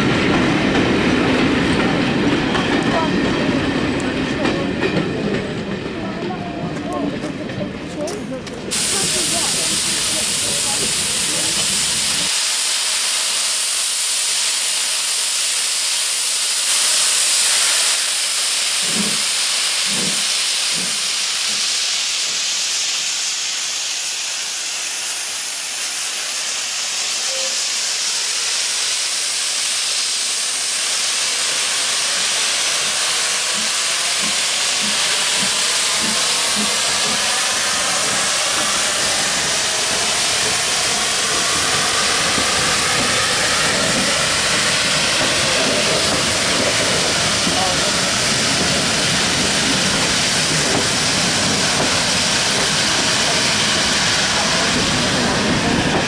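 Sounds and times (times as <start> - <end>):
steam locomotive exhaust beats: 0.0 - 56.0
steam hissing from cylinder drains: 8.6 - 56.0.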